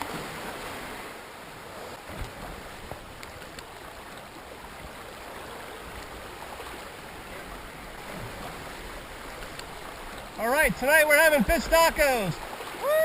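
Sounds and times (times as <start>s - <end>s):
small water splashes: 0.0s - 13.0s
water lapping around a kayak: 0.0s - 13.0s.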